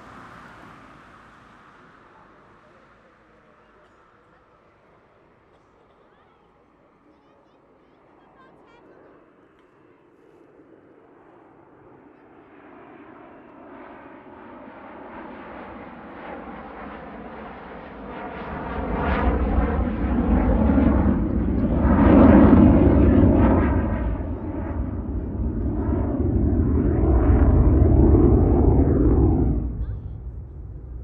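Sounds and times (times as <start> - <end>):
jet aircraft passing overhead: 0.0 - 31.0.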